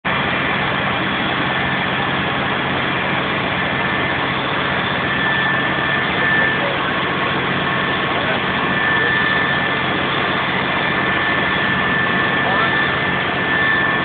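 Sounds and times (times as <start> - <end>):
faint steady tones: 0.4 - 14.0.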